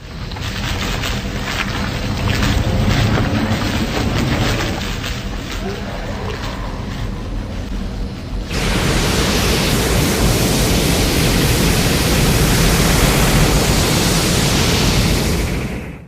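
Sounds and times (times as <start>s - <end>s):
loud steady rush of noise: 0.0s - 16.0s.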